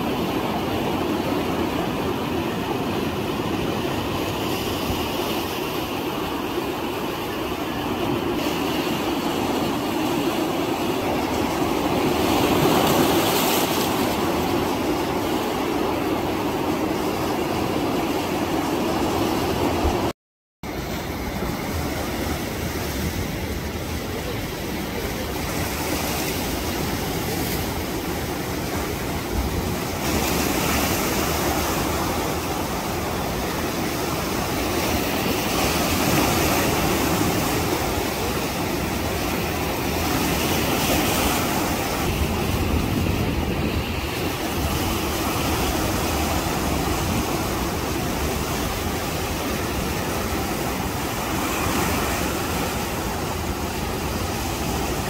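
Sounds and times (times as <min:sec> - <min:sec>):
waves breaking: 0:00.0 - 0:20.1, 0:20.7 - 0:55.0.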